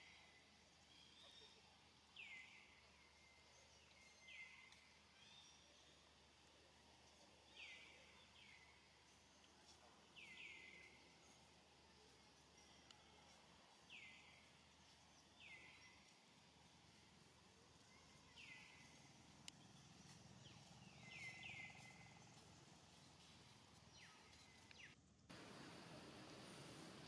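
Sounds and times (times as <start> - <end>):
background hiss: 0.0 - 27.0.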